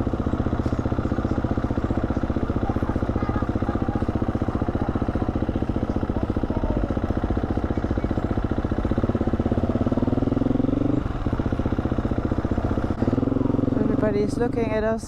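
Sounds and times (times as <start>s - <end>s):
dirt bike engine revving: 0.0s - 14.7s.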